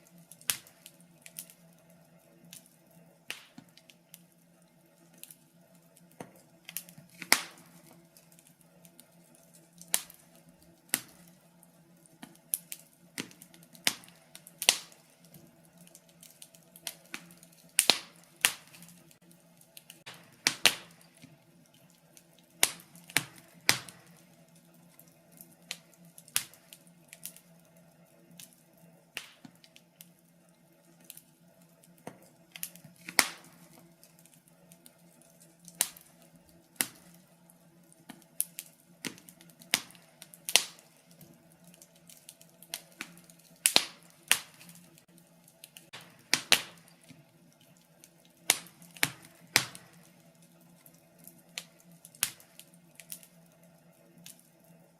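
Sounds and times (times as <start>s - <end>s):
faint steady hum: 0.0s - 54.9s
wood fire crackling and popping: 0.0s - 54.9s.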